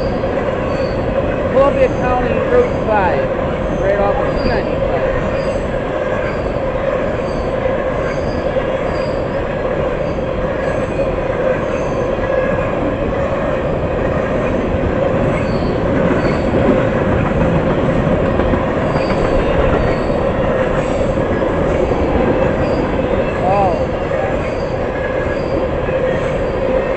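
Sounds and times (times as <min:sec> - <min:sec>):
wheels squealing: 0:00.0 - 0:11.0, 0:15.2 - 0:26.9
steel wheels rumbling on rail: 0:00.0 - 0:26.9.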